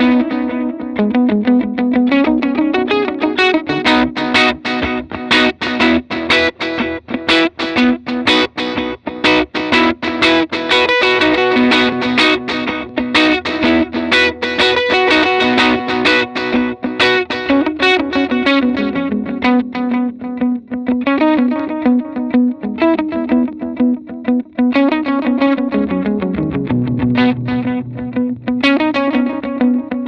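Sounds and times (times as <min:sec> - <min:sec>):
electric guitar with delay echoes: 0:00.0 - 0:30.0.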